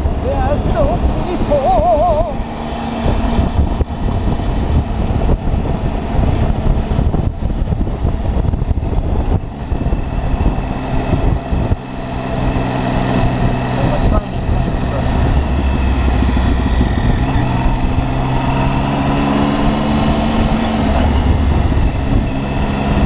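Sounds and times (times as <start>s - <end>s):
motorcycle engine running: 0.0s - 23.0s
wind rumble on microphone: 0.0s - 23.0s.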